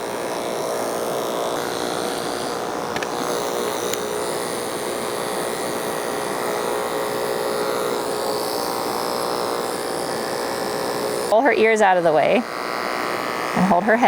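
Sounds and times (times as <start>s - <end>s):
electric clippers buzzing: 0.0s - 14.0s.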